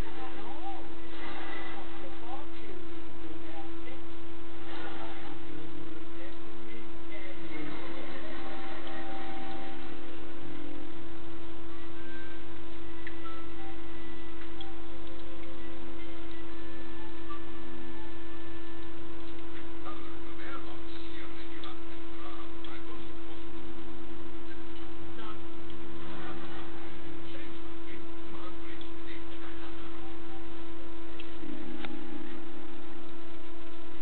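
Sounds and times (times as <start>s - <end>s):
steady electrical hum: 0.0s - 34.0s
television voices and music: 0.0s - 34.0s.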